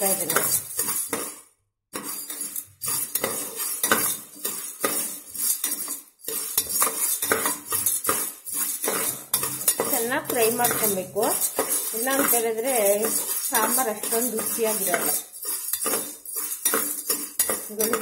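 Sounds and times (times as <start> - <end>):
spoon stirring beans in metal pot: 0.0 - 18.0.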